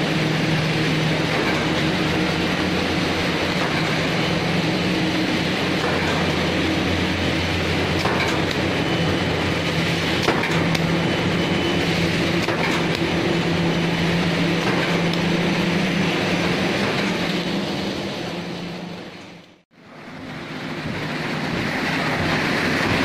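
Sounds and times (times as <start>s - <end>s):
lathe machine hum: 0.0s - 23.0s.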